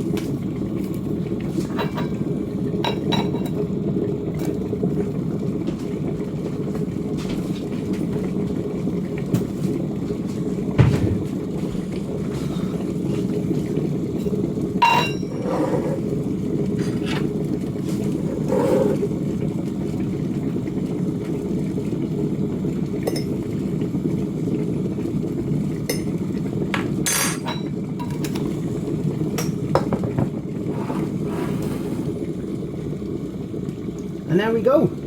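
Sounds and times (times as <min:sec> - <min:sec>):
electric kettle rumbling: 0:00.0 - 0:35.0.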